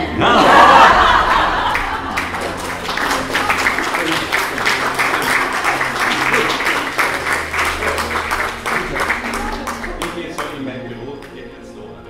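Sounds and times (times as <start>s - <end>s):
audience applauding: 0.2s - 11.5s.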